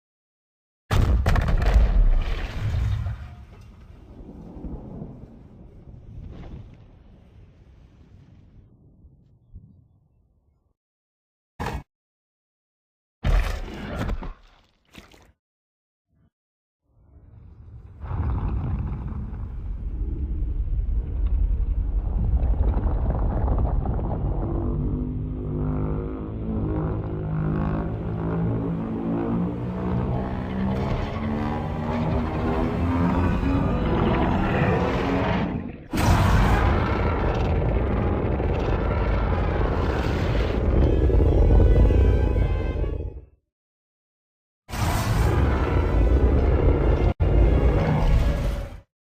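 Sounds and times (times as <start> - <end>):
deep rough monster rumble: 1.0 - 10.3, 17.1 - 43.4, 44.7 - 48.7.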